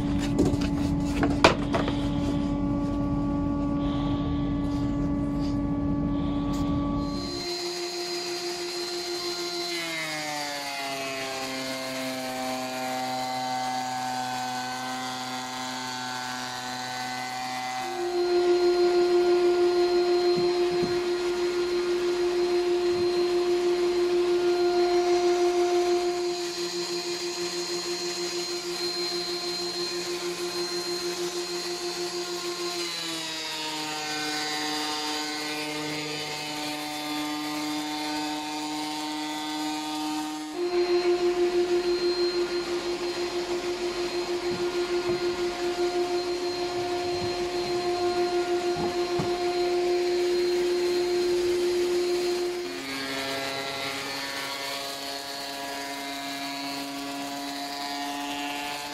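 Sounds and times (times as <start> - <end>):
high steady planer whine: 0.0 - 58.9
thickness planer running: 0.0 - 58.9.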